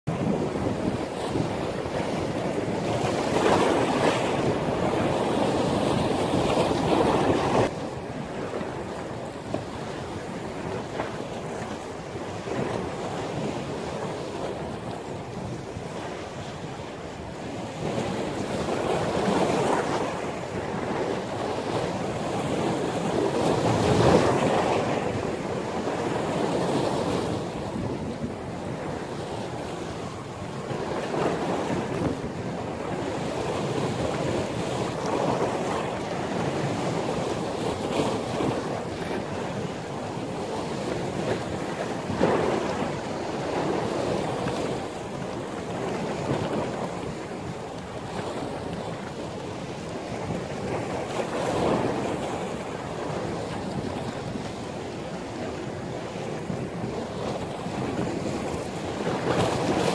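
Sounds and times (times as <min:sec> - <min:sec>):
surf breaking and washing: 0:00.1 - 0:59.9
wind buffeting microphone: 0:00.1 - 0:59.9.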